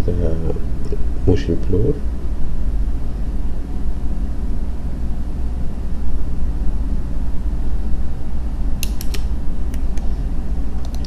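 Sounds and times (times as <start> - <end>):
faint hum: 0.0 - 11.0
low background rumble: 0.0 - 11.0.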